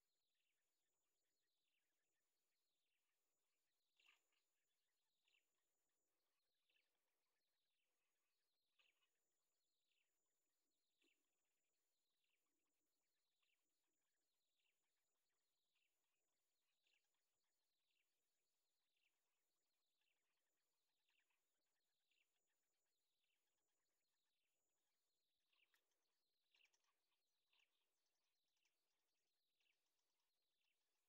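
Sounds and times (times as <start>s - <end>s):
faint steady high whine: 0.0s - 31.0s.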